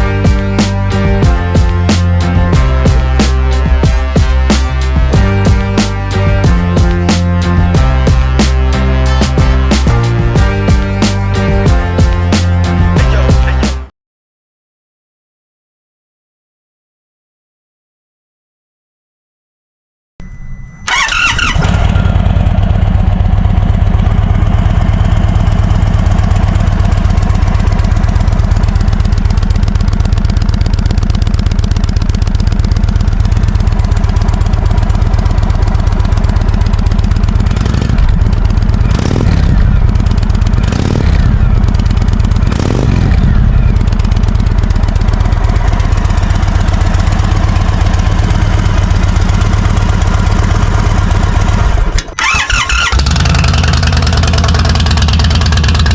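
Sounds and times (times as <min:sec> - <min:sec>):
motorcycle engine idling and revving: 0:00.0 - 0:13.9, 0:20.9 - 0:55.9.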